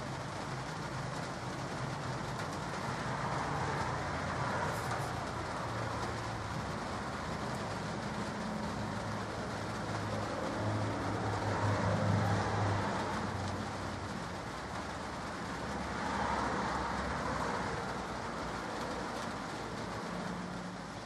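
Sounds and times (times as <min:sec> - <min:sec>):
light rain falling: 0:00.0 - 0:21.0.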